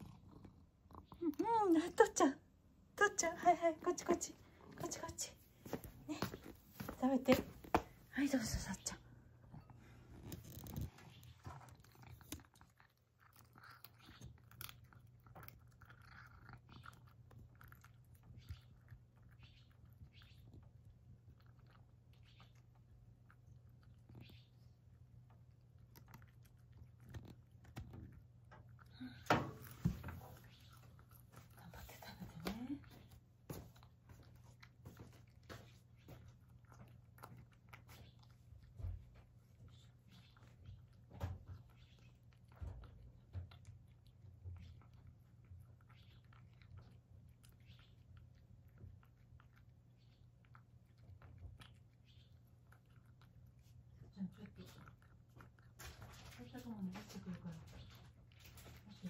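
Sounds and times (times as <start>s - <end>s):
cat chewing: 0.0s - 1.4s, 9.0s - 58.9s.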